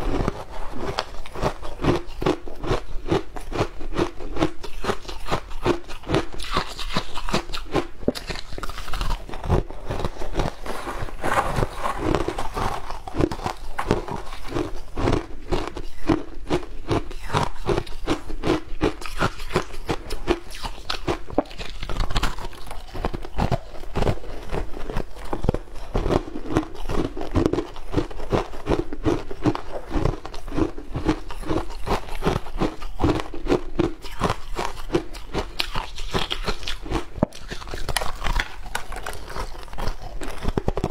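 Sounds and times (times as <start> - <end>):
person crunching shaved ice: 0.0 - 40.9.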